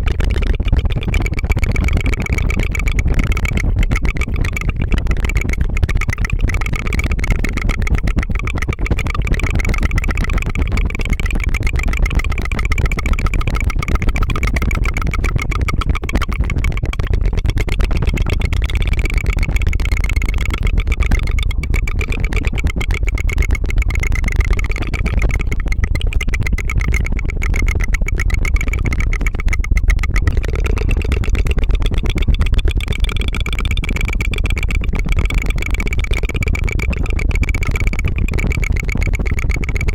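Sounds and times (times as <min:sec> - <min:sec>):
rapid tongue trill: 0:00.0 - 0:39.9.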